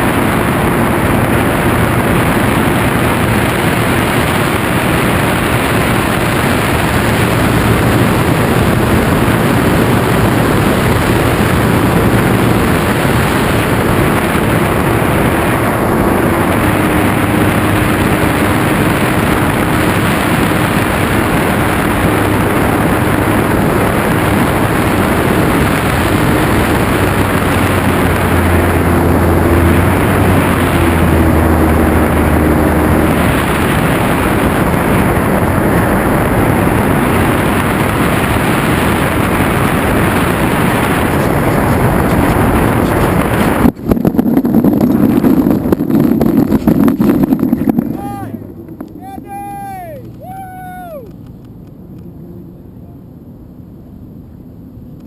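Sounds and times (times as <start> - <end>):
propeller motor hum: 0.0 - 55.0
wind rushing over microphone: 0.0 - 55.0.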